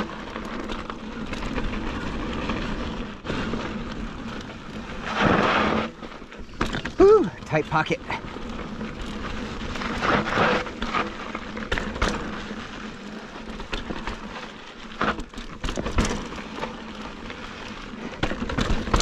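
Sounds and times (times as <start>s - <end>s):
bike knocking and rattling: 0.0s - 19.0s
bike tyres crunching on gravel: 0.0s - 19.0s.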